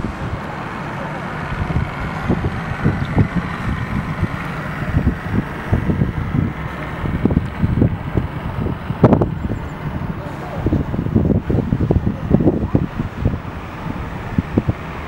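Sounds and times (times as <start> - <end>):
steady outdoor hiss: 0.0 - 15.0
wind buffeting microphone: 0.0 - 15.0.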